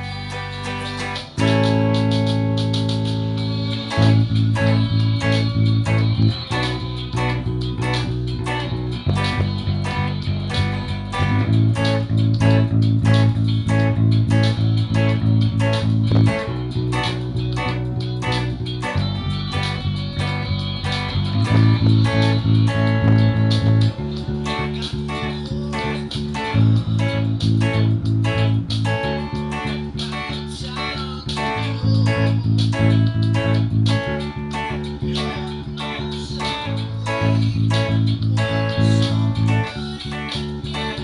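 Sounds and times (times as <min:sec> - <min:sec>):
electric bass line: 0:00.0 - 0:41.0
electric guitar rhythm chords: 0:00.0 - 0:41.0
reggae-rock song from cd: 0:00.0 - 0:41.0.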